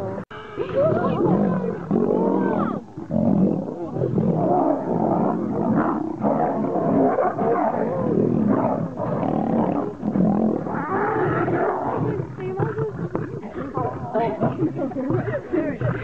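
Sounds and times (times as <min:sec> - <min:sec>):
lions roaring and fighting: 0:00.7 - 0:16.0.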